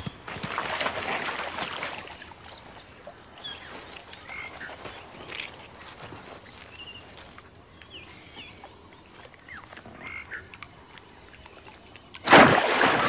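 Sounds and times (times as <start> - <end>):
frogs croaking: 0.0 - 12.2.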